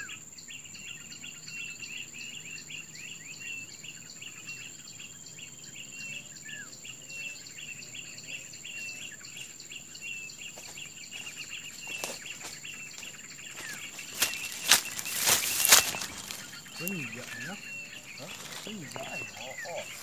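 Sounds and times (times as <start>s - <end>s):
high-pitched insect whine: 0.0s - 20.0s.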